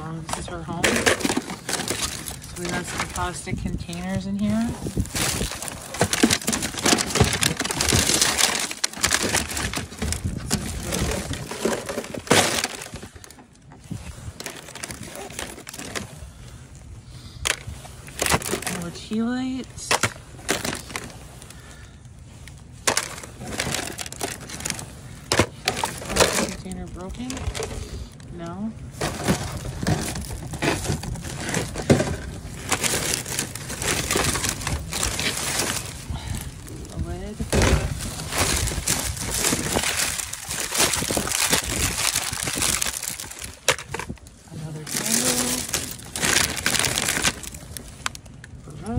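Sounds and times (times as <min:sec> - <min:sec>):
plastic bag rustling: 0:00.0 - 0:48.9
plastic containers clicking: 0:00.1 - 0:13.6, 0:14.4 - 0:16.1, 0:17.4 - 0:19.1, 0:19.8 - 0:21.2, 0:22.8 - 0:27.8, 0:29.0 - 0:35.9, 0:37.5 - 0:44.2, 0:44.8 - 0:48.6.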